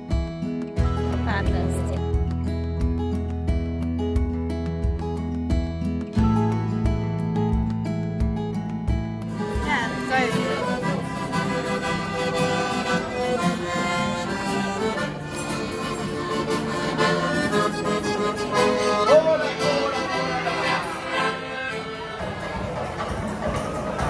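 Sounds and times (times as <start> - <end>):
accordion tune: 0.0 - 24.0.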